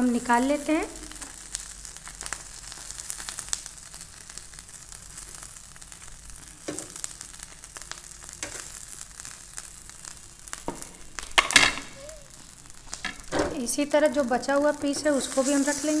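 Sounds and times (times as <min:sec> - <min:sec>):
butter and juices sizzling on grill: 0:00.0 - 0:16.0.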